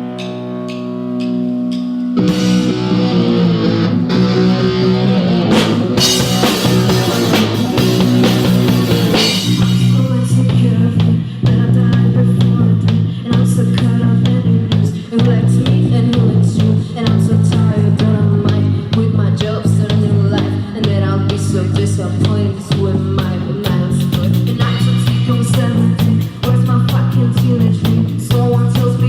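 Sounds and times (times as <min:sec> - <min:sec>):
electric guitar chords: 0:00.0 - 0:29.0
rock drums: 0:00.0 - 0:29.0.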